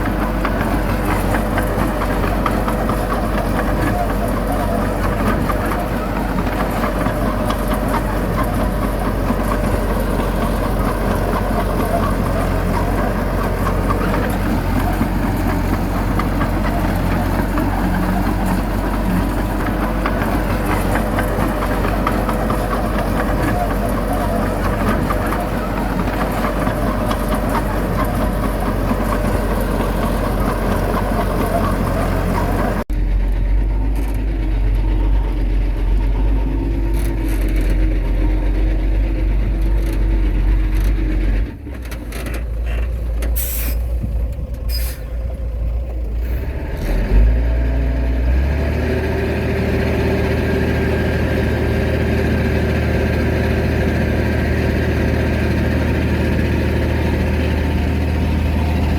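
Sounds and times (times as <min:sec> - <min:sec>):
heavy diesel machinery engines: 0:00.0 - 0:58.9.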